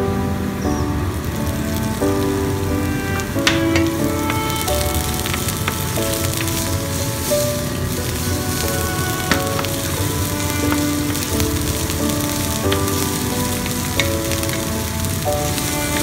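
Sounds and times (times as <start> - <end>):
background music melody: 0.0 - 16.0
shrimp sizzling in oil: 0.7 - 16.0.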